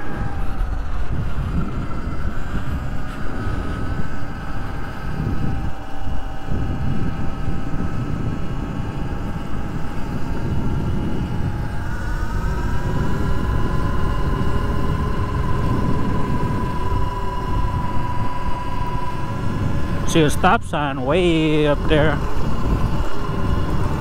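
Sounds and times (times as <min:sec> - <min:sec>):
electric motor whine: 0:00.0 - 0:24.0
wind buffeting microphone: 0:00.0 - 0:24.0.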